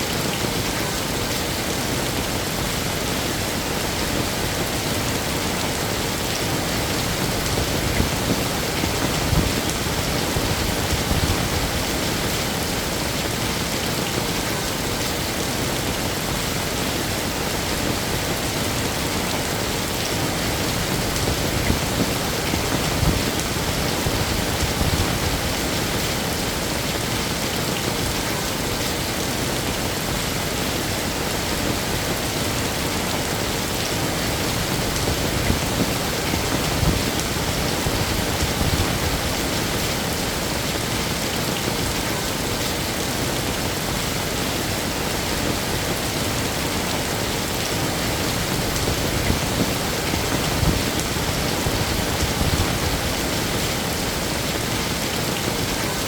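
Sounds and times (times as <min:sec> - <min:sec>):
heavy rain falling: 0:00.0 - 0:56.0
heavy raindrops: 0:00.0 - 0:56.0.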